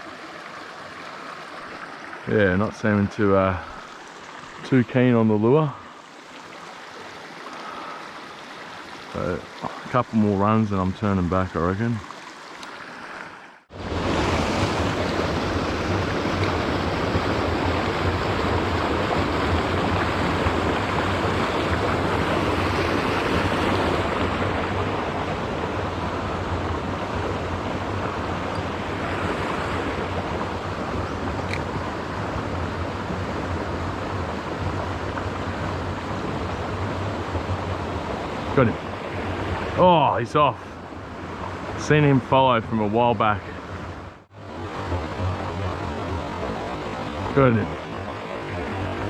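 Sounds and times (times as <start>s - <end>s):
creek water rushing over rocks: 0.0s - 49.0s.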